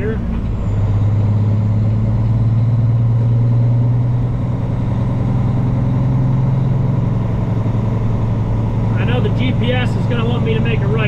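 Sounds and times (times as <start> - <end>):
truck diesel engine droning: 0.0 - 11.0.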